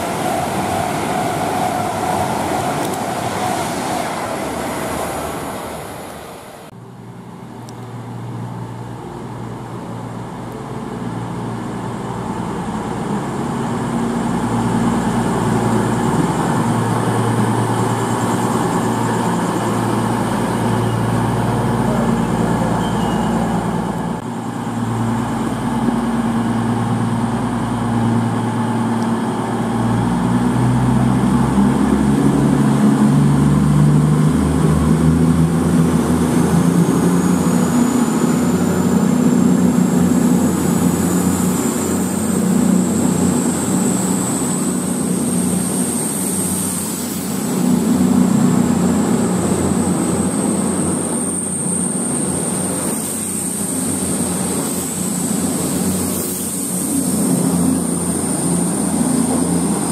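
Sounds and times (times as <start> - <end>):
train engine drone: 0.0 - 59.9.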